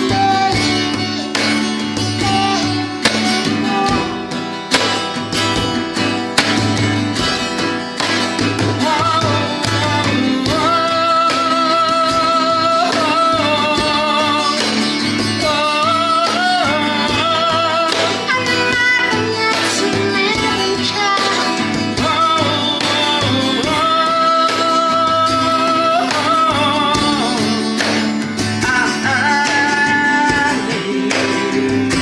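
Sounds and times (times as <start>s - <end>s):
person singing long held notes: 0.0s - 4.4s, 8.8s - 32.0s
guitar accompaniment: 0.0s - 32.0s.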